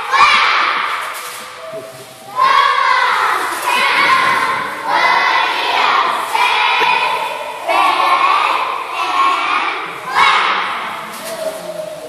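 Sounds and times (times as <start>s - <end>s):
girls chanting a cheer: 0.0s - 1.2s, 2.3s - 11.1s.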